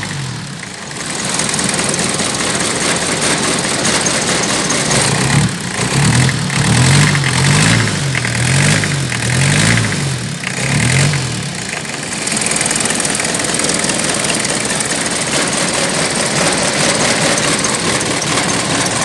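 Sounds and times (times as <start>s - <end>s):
diesel engine running unevenly: 0.0s - 19.0s.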